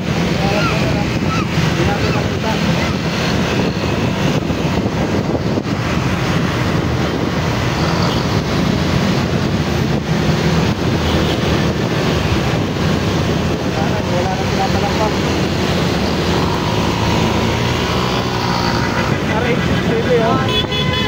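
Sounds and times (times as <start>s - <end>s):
motorcycle engines: 0.0s - 21.0s
road traffic: 0.0s - 21.0s
wind noise on microphone: 0.0s - 21.0s.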